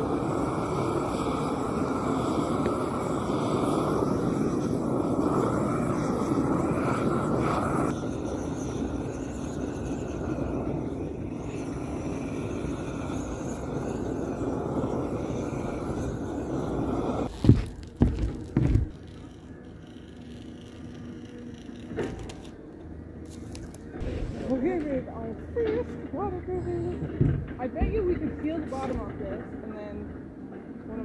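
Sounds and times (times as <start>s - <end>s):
propane torch burning: 0.0s - 30.2s.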